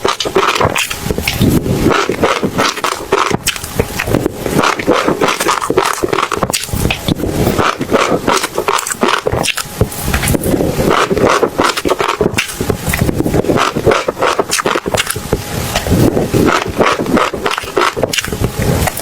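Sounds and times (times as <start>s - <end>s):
chewing seeds crunching: 0.0s - 19.0s.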